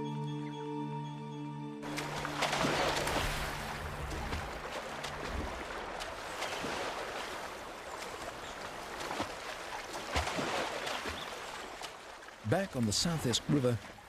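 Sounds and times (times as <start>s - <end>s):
river water rushing: 1.8s - 14.0s.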